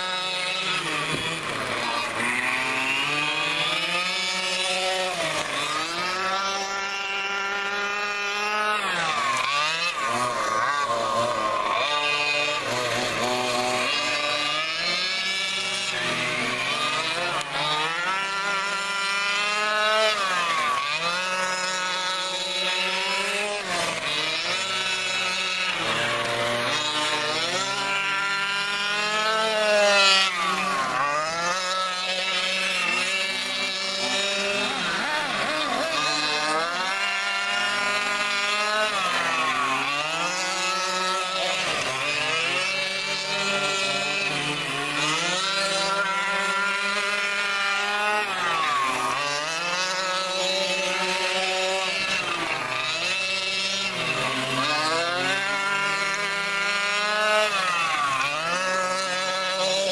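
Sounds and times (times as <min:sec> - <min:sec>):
rc truck motors buzzing: 0:00.0 - 0:59.9.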